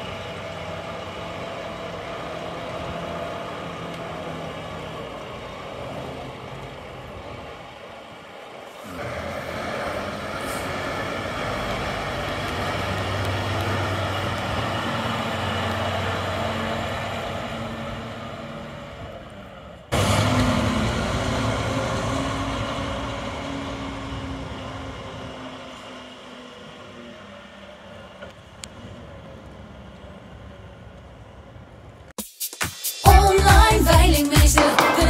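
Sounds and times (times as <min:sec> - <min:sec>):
diesel truck driving past: 0:00.0 - 0:32.1.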